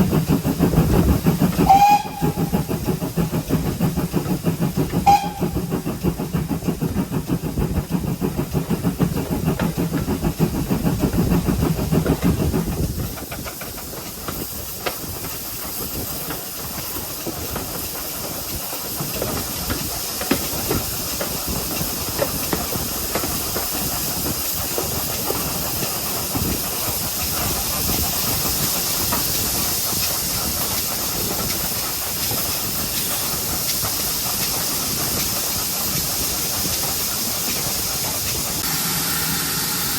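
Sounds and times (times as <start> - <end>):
steam hissing: 0.0 - 39.9
steam locomotive chuffing: 0.0 - 39.9.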